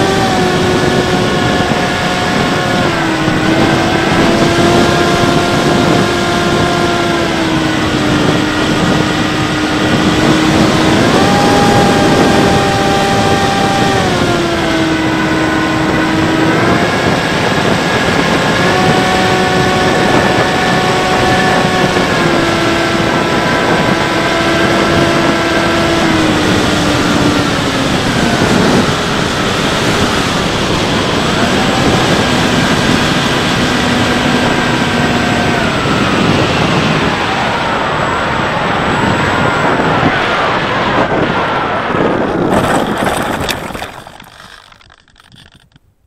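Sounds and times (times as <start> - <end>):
electric motor and propeller whining: 0.0 - 45.8
wind rush: 0.0 - 45.8.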